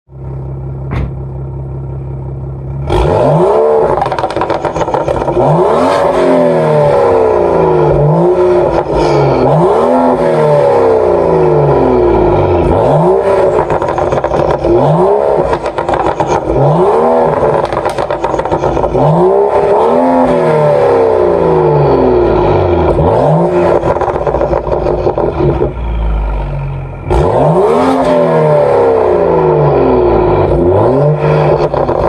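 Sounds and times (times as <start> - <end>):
car engine revving: 0.2 - 32.0.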